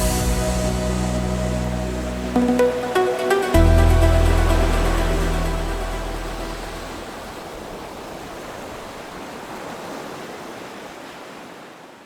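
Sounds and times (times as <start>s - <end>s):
sea waves washing: 0.0s - 11.6s.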